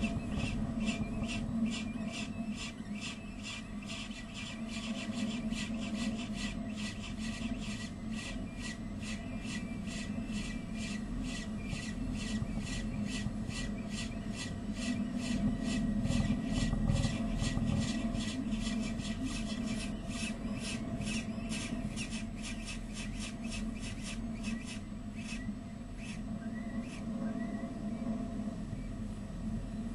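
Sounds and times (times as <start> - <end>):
low hum: 0.0 - 29.9.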